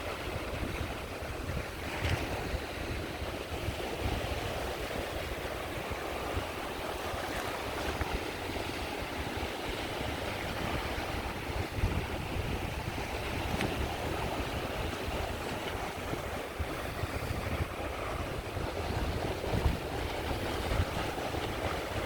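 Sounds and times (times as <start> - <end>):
sea waves washing onto shore: 0.0 - 22.0.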